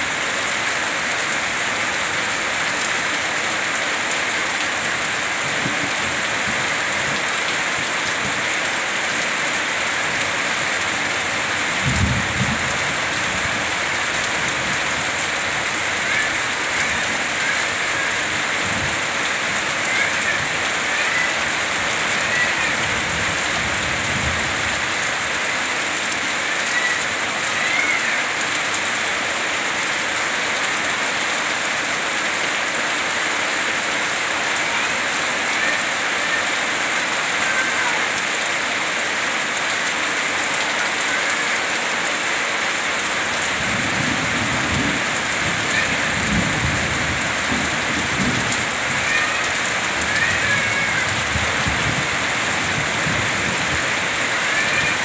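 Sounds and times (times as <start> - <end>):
heavy rain pouring: 0.0 - 55.0
water streaming off roof: 0.0 - 55.0.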